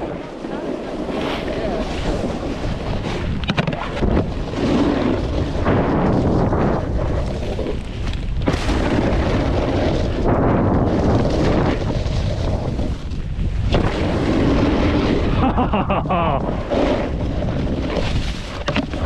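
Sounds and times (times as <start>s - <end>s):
snowboard sliding over snow: 0.0s - 19.0s
wind rumbling on microphone: 0.0s - 19.0s.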